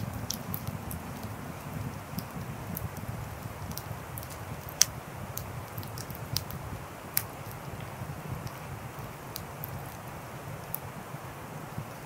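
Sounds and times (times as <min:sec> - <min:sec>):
fire crackles and pops: 0:00.0 - 0:12.0
fire flames rushing: 0:00.0 - 0:12.0.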